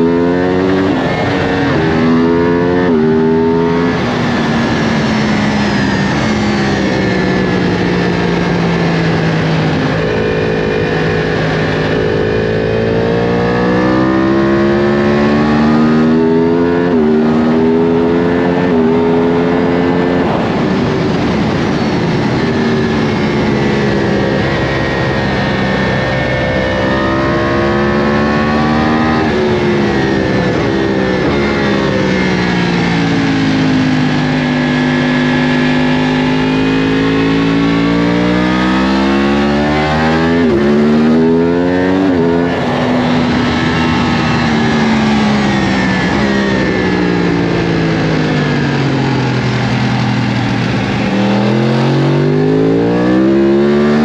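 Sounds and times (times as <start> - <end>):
wind rush: 0.0 - 14.4, 16.0 - 28.0, 28.8 - 53.8
sportbike engine accelerating: 0.0 - 20.4, 21.8 - 54.0.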